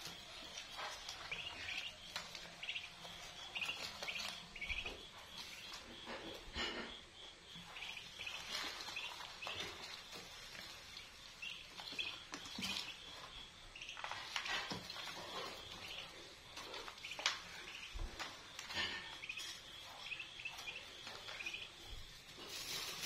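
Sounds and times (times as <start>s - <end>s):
beaks pecking feed in bowl: 0.0s - 23.0s
ducklings peeping: 0.0s - 23.0s.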